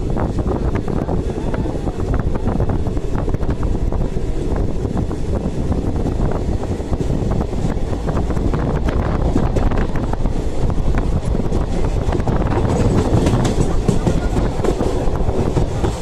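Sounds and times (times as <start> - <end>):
moving train rumble: 0.0 - 16.0
wind buffeting microphone: 0.0 - 16.0.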